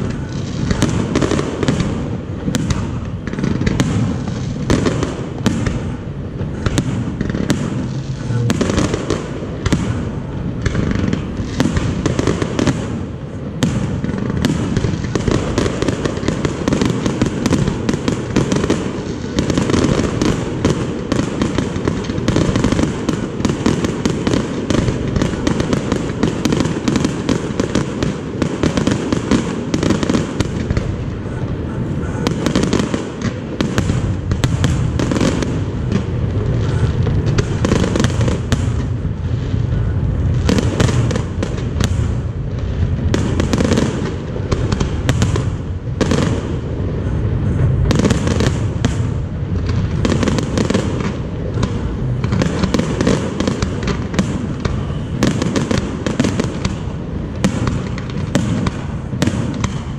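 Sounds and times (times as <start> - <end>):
constant rumble: 0.0 - 59.9
firework bangs and crackles: 0.0 - 59.9.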